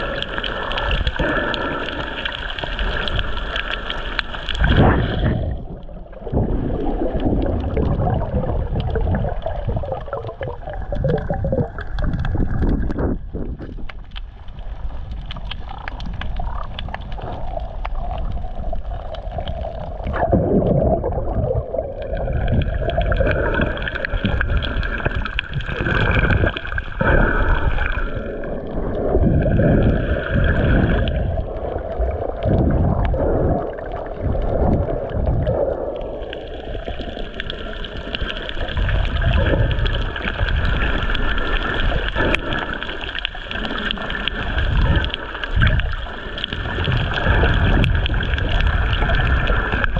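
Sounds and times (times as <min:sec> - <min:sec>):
water gurgling underwater: 0:00.0 - 0:49.9.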